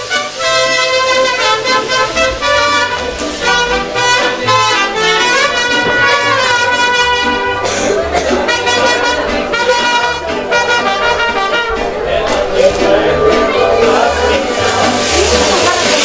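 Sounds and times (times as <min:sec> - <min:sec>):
brass band music: 0:00.0 - 0:16.0.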